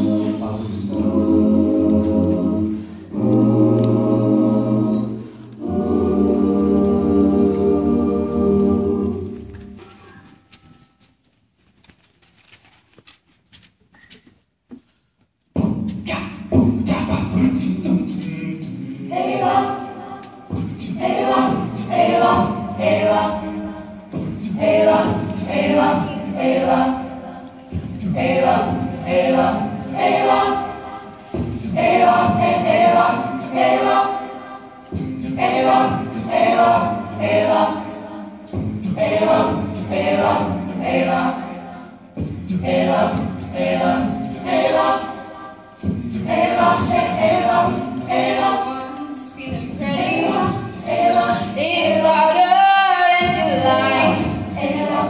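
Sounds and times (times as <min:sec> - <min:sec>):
choir singing in harmony: 0:00.0 - 0:10.0, 0:16.7 - 0:55.0.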